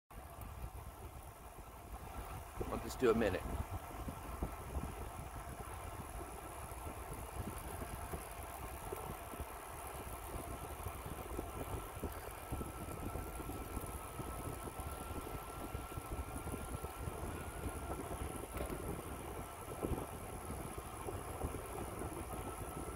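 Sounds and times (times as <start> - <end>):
bicycle tyres on asphalt: 0.1 - 22.9
wind buffeting microphone: 0.3 - 22.9.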